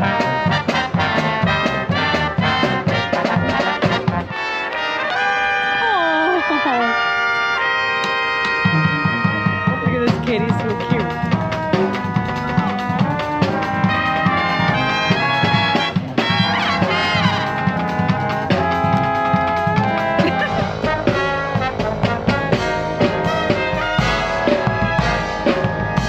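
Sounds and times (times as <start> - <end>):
drums keeping steady beat: 0.0 - 26.0
sousaphones: 0.0 - 26.0
trombones: 0.0 - 26.0
trumpets: 0.0 - 26.0.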